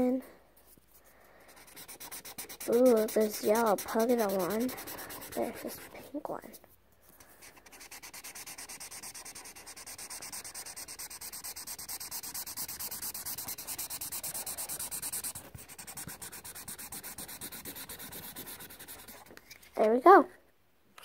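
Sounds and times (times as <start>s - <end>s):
marker scribbling on paper: 1.5s - 6.6s, 7.4s - 19.3s.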